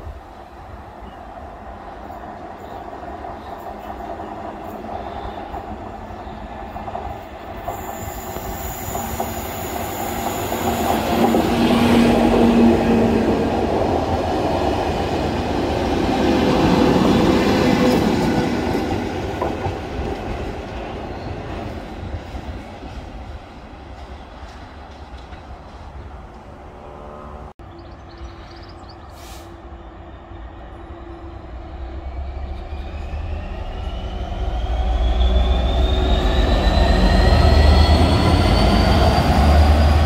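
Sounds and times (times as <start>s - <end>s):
train passing on rails: 0.0s - 40.0s.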